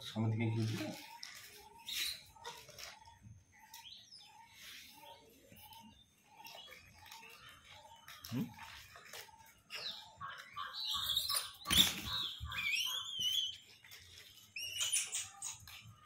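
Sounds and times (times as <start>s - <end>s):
monkeys squealing and chirping: 0.0s - 16.0s.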